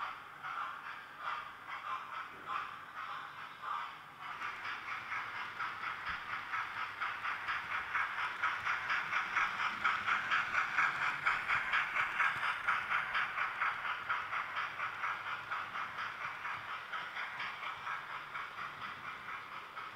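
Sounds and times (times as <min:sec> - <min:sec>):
steam locomotive chuffing from speaker: 0:00.0 - 0:19.9.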